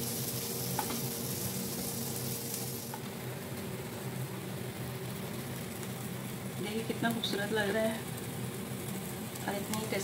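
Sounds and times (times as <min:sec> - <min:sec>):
meat sizzling over flame: 0:00.0 - 0:10.0.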